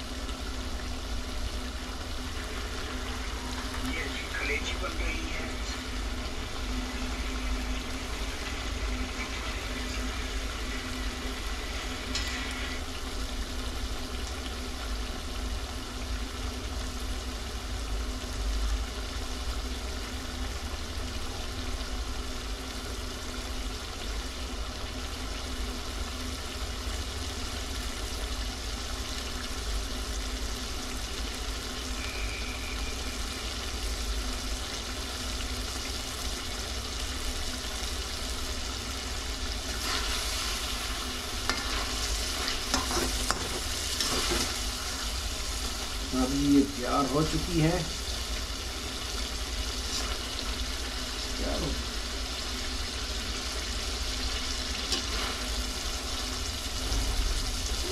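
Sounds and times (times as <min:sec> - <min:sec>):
liver sizzling in oil: 0:00.0 - 0:57.9.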